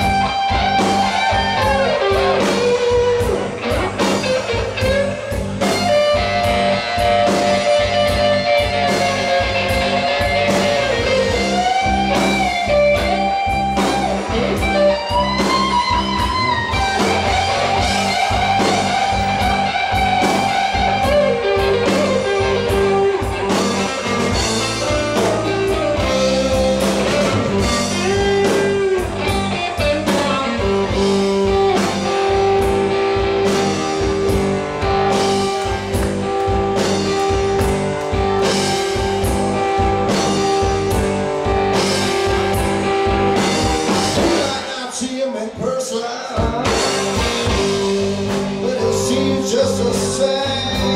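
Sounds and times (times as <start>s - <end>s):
electric guitar lead with bent notes: 0.0s - 45.0s, 46.4s - 50.9s
bass guitar: 0.0s - 50.9s
drums: 0.0s - 50.9s.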